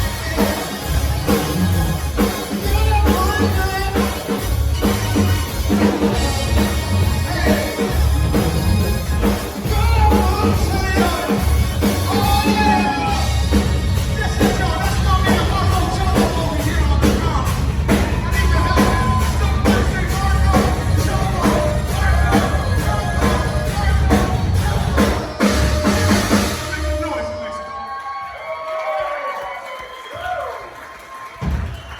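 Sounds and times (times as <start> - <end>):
person singing: 0.0 - 4.4, 5.8 - 27.5
live rock band playing: 0.0 - 27.6.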